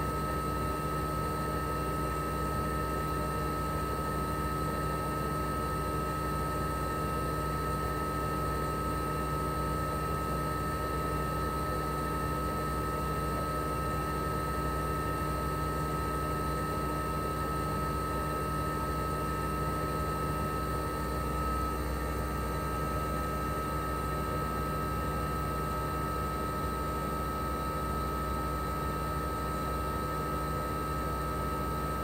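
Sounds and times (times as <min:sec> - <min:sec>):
compressor humming: 0:00.0 - 0:32.0.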